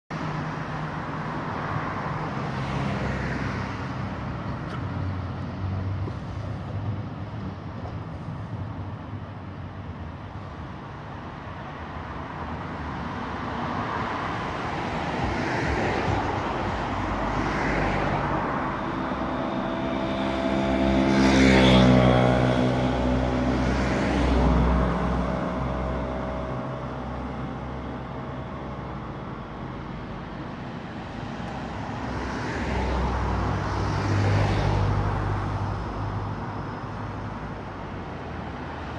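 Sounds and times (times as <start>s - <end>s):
vehicles passing by: 0.1s - 38.9s.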